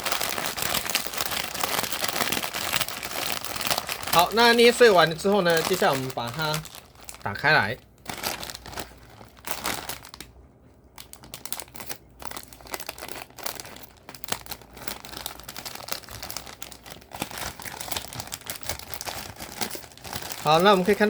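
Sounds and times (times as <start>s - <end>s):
plastic wrapper crinkling: 0.0s - 21.0s.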